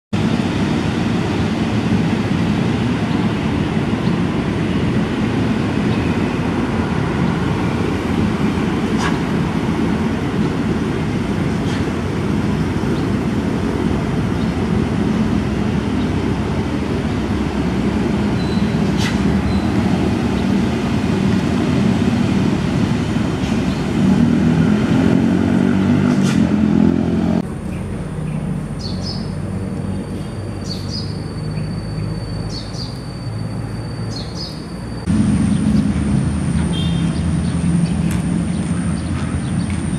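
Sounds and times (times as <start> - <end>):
road traffic rumble: 0.1 - 39.9.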